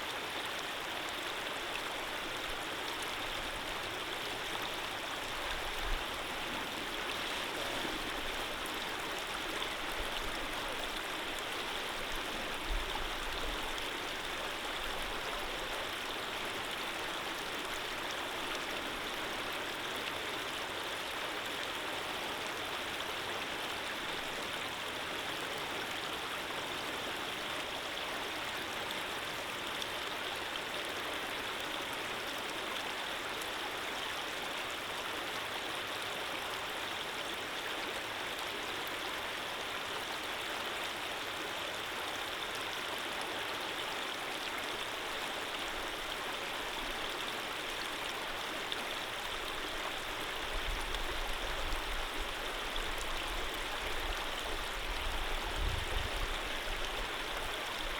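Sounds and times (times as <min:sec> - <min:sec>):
stream of running water: 0:00.0 - 0:57.9.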